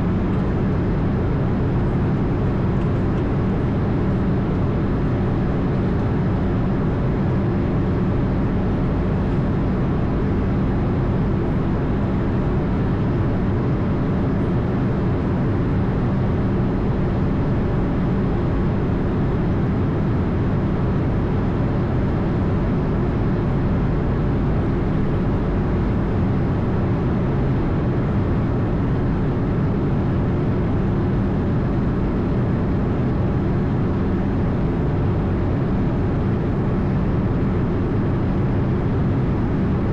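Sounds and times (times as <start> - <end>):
airliner engine and airflow noise: 0.0 - 39.9.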